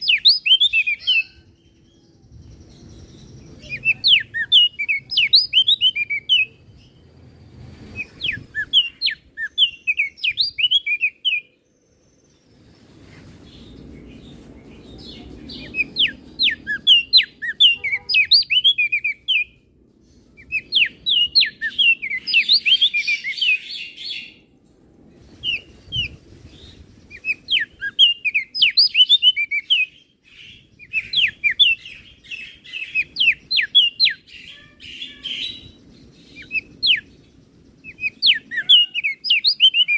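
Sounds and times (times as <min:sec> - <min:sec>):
bird singing high chirps: 0:00.0 - 0:24.4, 0:25.3 - 0:39.9.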